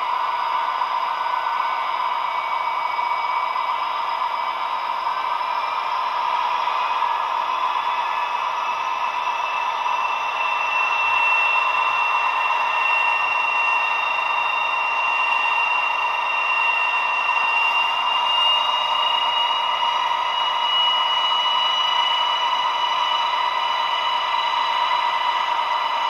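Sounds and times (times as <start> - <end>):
high whine rising in pitch: 0.0 - 26.0
thin diesel engine through small speaker: 0.0 - 26.0.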